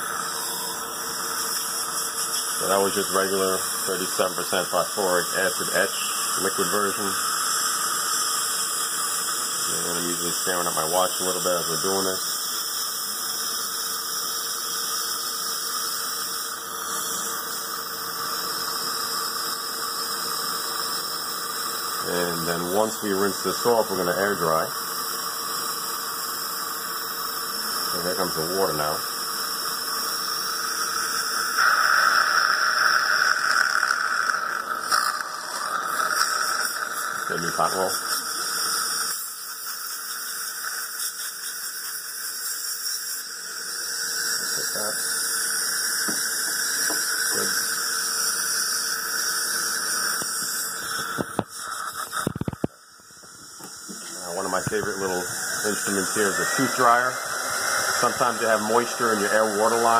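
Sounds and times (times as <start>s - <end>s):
saliva ejector hissing: 0.0s - 59.9s.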